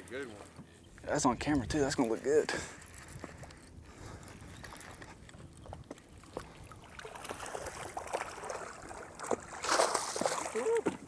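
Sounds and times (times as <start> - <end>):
water lapping around a boat: 0.0 - 11.0.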